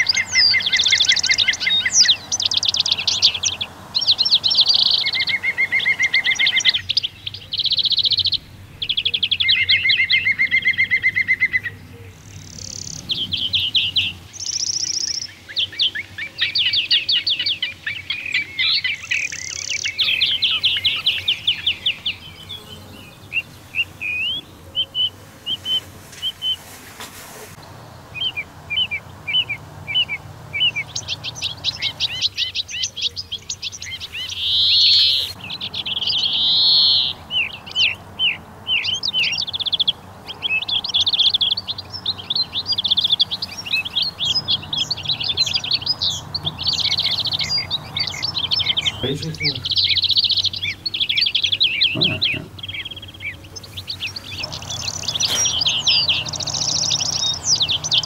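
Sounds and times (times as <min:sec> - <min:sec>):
small birds chirping and singing: 0:00.0 - 0:58.0.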